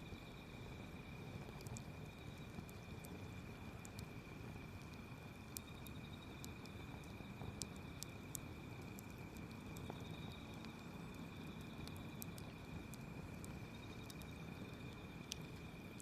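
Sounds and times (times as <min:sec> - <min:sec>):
campfire crackling and popping: 0:00.0 - 0:16.0
insects trilling: 0:00.0 - 0:16.0.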